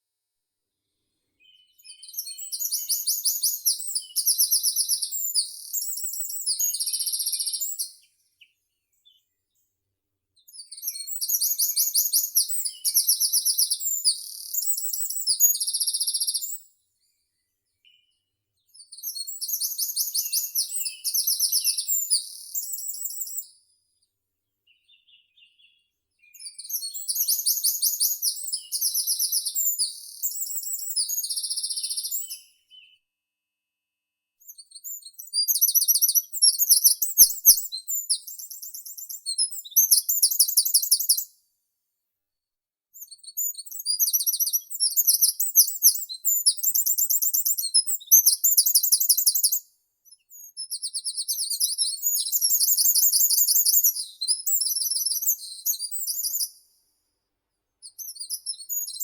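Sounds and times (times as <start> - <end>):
songbird high trilled song: 1.4 - 9.2, 10.4 - 16.7, 17.9 - 23.5, 24.7 - 33.0, 34.4 - 41.3, 43.0 - 56.6, 57.8 - 59.0.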